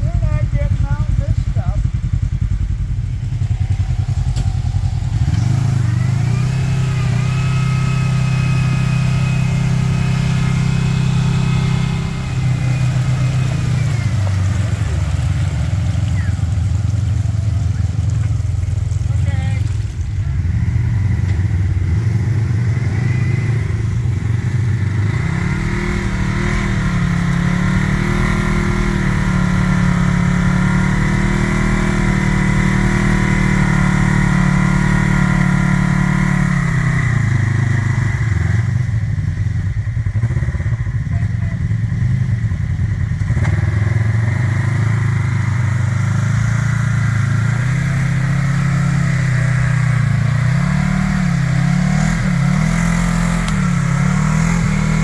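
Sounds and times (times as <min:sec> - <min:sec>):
utility vehicle engine revving: 0:00.0 - 0:55.0.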